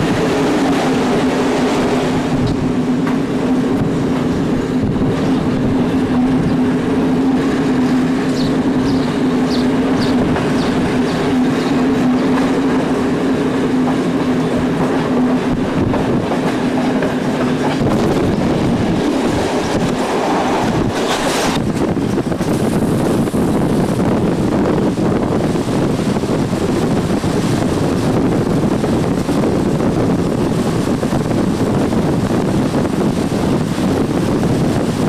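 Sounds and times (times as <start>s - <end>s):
low drone of train: 0.0s - 35.0s
train wheels rumbling on rails: 0.0s - 35.0s.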